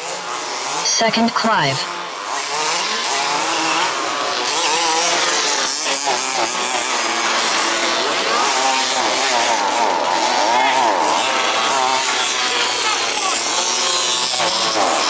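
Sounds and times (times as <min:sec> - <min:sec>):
model car engines buzzing: 0:00.0 - 0:15.0.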